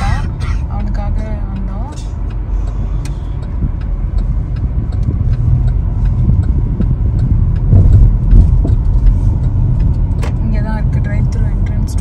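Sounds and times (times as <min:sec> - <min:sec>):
car engine and road rumble: 0:00.0 - 0:12.0
faint regular ticking: 0:00.0 - 0:12.0.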